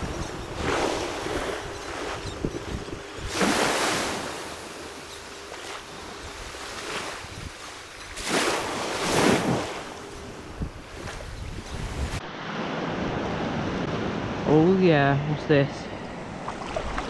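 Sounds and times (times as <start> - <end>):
small waves washing on sand: 0.0 - 14.6.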